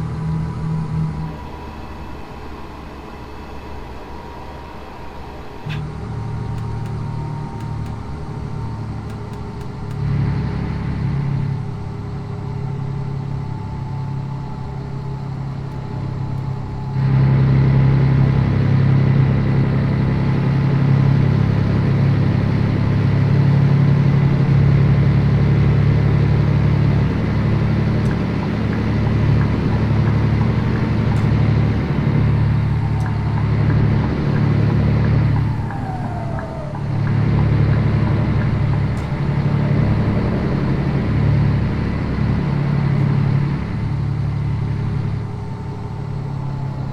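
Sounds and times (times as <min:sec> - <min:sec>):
diesel truck engine droning: 0:00.0 - 0:46.9.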